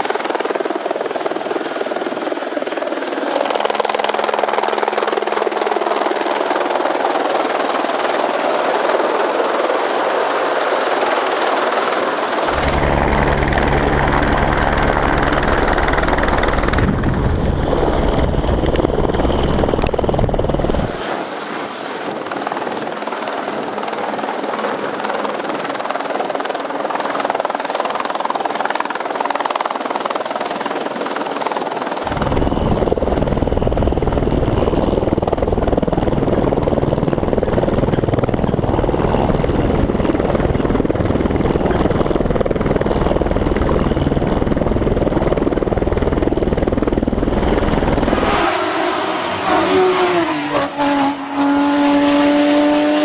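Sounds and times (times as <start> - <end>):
helicopter rotor throbbing: 0.0 - 53.0
turbine rushing noise: 0.0 - 53.0.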